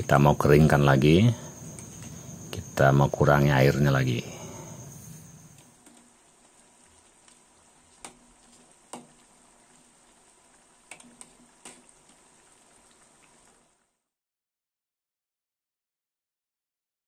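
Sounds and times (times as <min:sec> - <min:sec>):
stew simmering faintly: 0:00.0 - 0:14.1.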